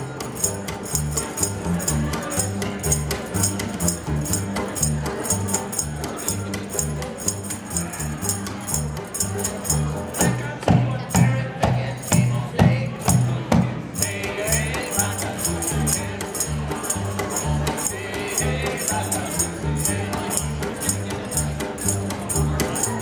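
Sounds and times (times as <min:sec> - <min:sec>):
plucked double bass: 0:00.0 - 0:23.0
strummed banjo: 0:00.0 - 0:23.0
tambourine jingling: 0:00.0 - 0:23.0.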